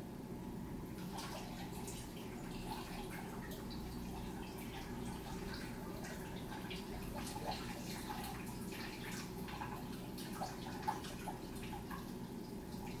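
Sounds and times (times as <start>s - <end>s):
humidifier humming: 0.0s - 13.0s
water dripping and ticking: 0.9s - 13.0s.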